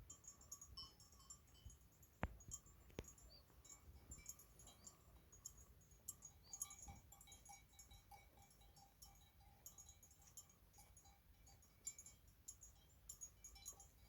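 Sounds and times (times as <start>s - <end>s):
livestock bells clinking: 0.0s - 14.0s.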